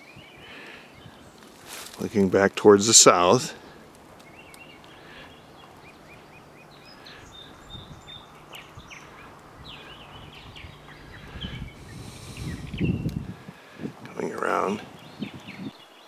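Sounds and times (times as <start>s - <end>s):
small birds chirping and whistling: 0.0s - 1.6s, 2.9s - 13.4s, 14.2s - 16.0s.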